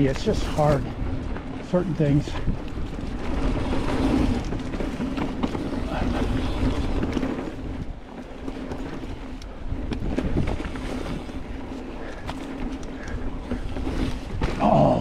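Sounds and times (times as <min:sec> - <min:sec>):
bike knocking and rattling: 0:00.0 - 0:15.0
bike tyre noise on dirt: 0:00.0 - 0:15.0
wind buffeting microphone: 0:00.0 - 0:15.0.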